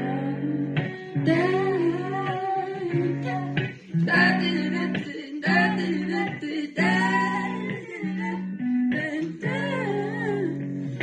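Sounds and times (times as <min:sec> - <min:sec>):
electric guitar chords: 0:00.0 - 0:11.0
person singing: 0:00.0 - 0:11.0.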